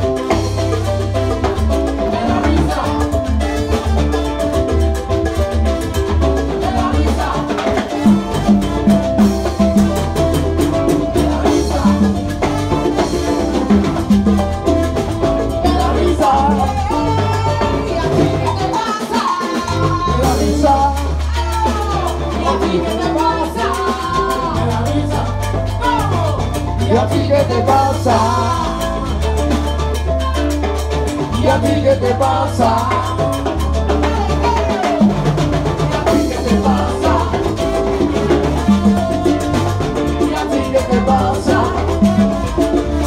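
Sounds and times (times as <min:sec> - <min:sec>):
bass line: 0:00.0 - 0:19.0, 0:19.6 - 0:43.0
congas: 0:00.0 - 0:43.0
salsa band playing: 0:00.0 - 0:43.0.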